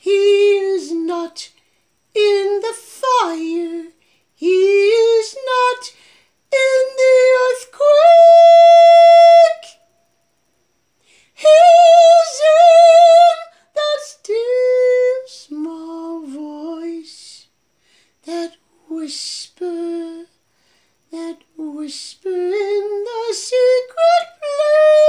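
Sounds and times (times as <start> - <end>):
woman singing unaccompanied: 0.0 - 9.9, 11.3 - 17.6, 18.2 - 20.4, 21.1 - 25.0.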